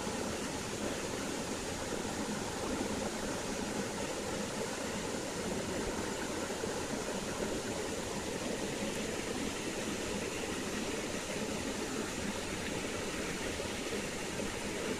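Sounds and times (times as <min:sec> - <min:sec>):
stream water running over rocks: 0:00.0 - 0:14.9.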